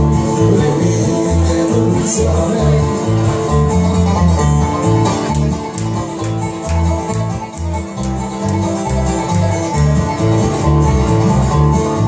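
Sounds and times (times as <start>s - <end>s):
acoustic guitar strumming: 0.0s - 12.0s
banjo picking: 0.0s - 12.0s
upright bass walking: 0.0s - 12.0s.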